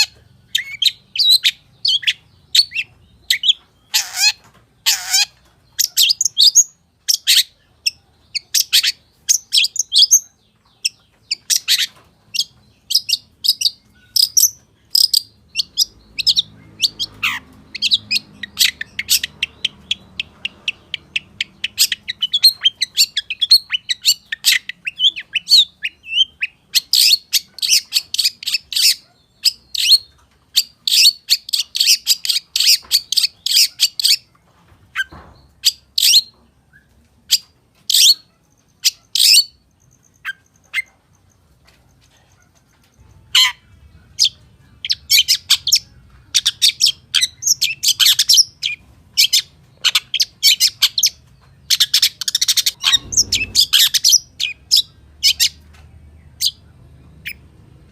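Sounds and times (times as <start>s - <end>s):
bird singing varied song: 0.0s - 57.9s.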